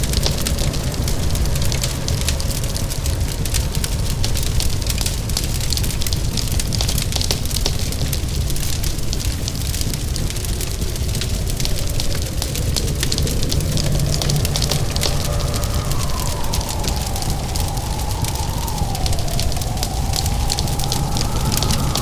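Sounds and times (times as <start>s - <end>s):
rain falling: 0.0s - 22.0s
wood fire crackling: 0.0s - 22.0s.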